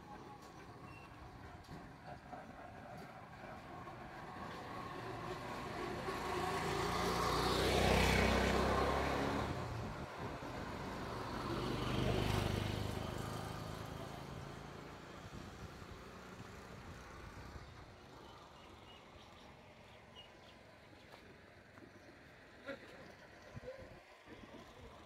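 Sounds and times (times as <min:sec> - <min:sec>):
vehicles passing on road: 0:00.0 - 0:25.0.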